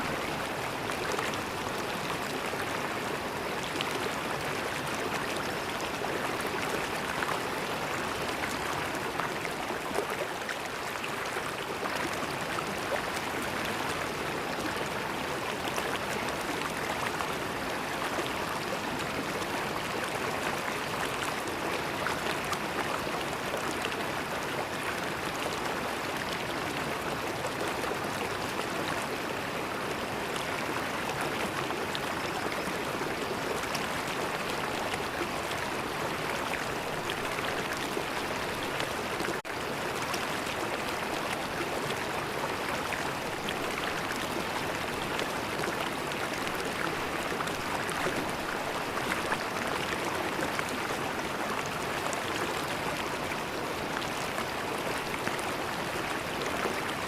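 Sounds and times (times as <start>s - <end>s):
river water flowing and gurgling: 0.0s - 57.0s.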